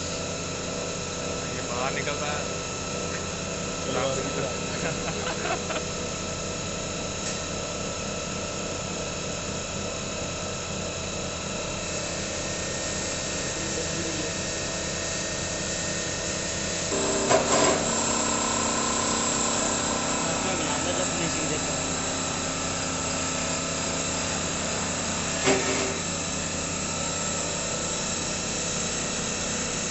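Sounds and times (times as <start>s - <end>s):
lathe machine whine: 0.0s - 29.9s.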